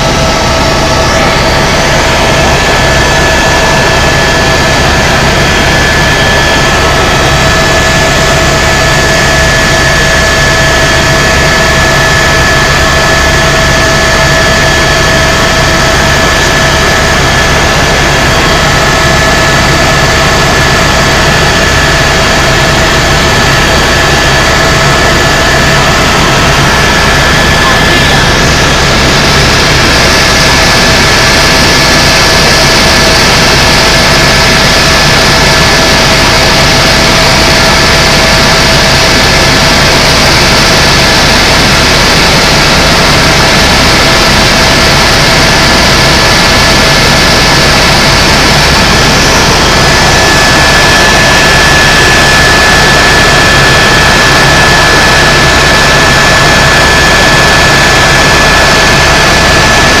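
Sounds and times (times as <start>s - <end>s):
helicopter engine and rotor drone: 0.0s - 60.0s
high steady whining tones: 0.0s - 60.0s.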